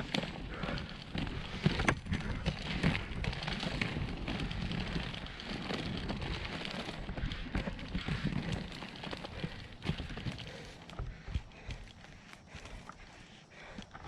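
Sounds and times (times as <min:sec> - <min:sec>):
skate wheels rolling over gravel: 0:00.0 - 0:14.0.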